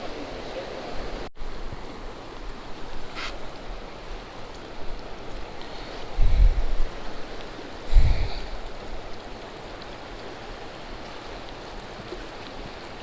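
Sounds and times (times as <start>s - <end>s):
wind and rain: 0.0s - 13.0s
wind buffeting microphone: 0.0s - 13.0s.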